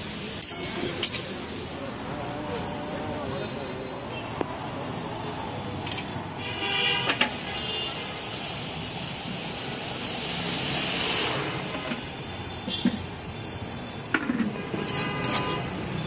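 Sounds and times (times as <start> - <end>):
gas burners hissing: 0.0 - 15.0.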